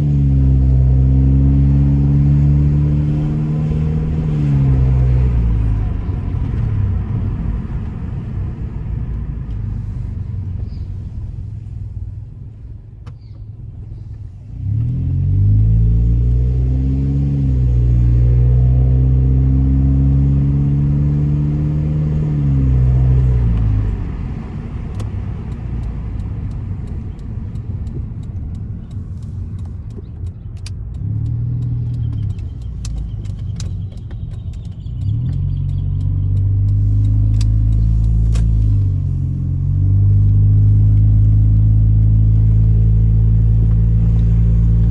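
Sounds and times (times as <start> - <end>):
car engine revving: 0.0 - 10.8, 14.4 - 44.9.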